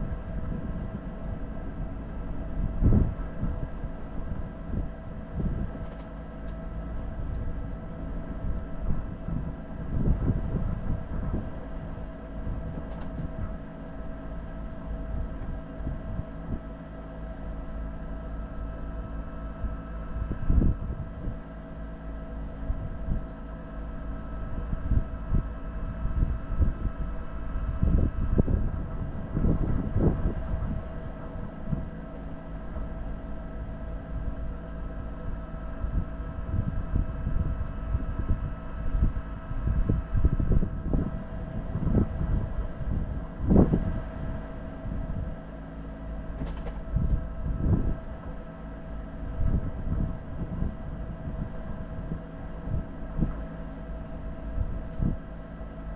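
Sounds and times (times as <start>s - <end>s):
vehicle engine drone: 0.0s - 55.9s.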